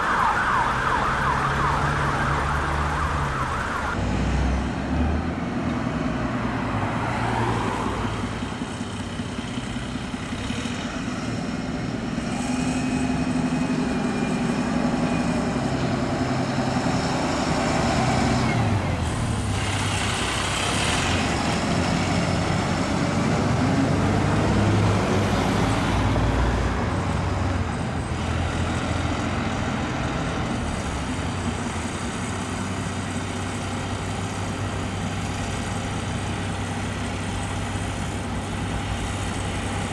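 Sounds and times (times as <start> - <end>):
diesel engine running: 7.9 - 39.9.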